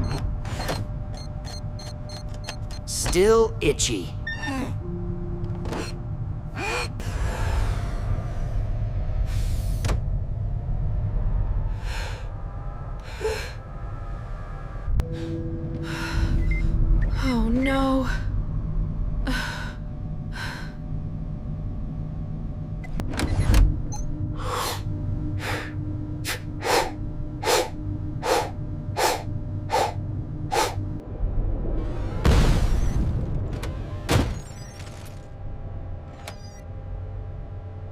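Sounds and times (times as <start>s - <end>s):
low rumbling cabin hum: 0.0s - 34.7s.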